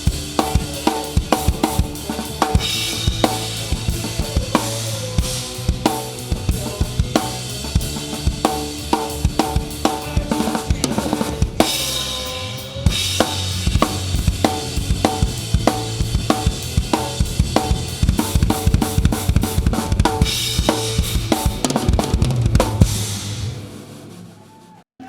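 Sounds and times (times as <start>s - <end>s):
rock band with bass: 0.0s - 24.8s
rock drum kit: 0.0s - 24.8s.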